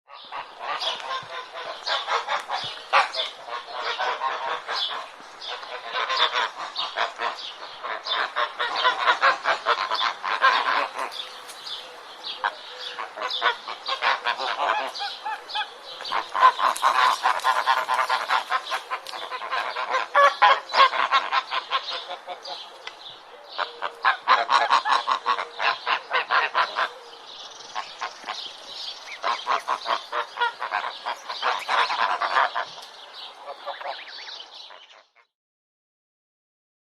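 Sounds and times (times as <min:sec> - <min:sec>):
geese honking: 0:00.1 - 0:27.1, 0:27.7 - 0:35.0.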